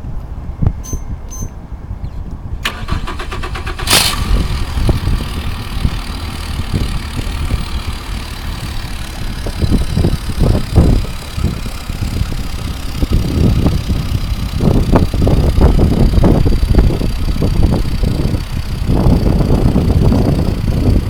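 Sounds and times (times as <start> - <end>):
boat engine starting and idling: 2.6 - 21.0.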